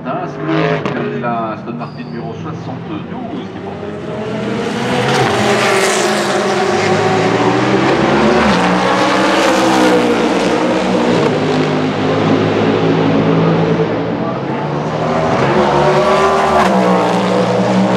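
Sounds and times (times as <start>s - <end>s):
racing car engines passing: 0.0s - 17.9s.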